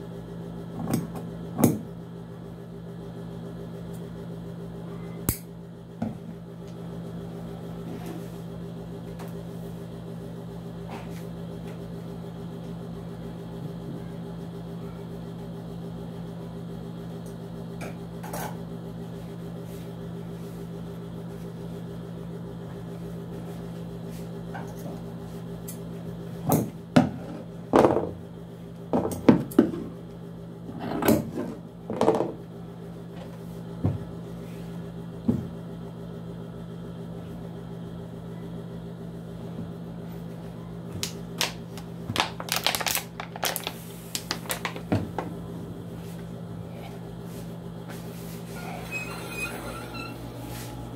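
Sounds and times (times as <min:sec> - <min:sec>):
electrical hum: 0:00.0 - 0:50.9.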